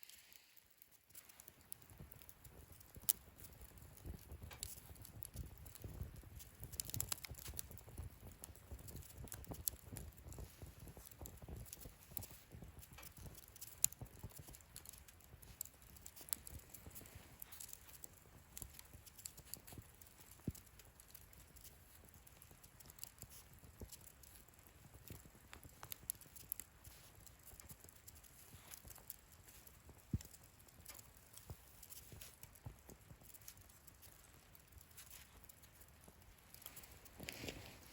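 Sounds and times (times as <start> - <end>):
fire crackling and popping: 0.0 - 37.9
low rumble of flame: 0.0 - 37.9.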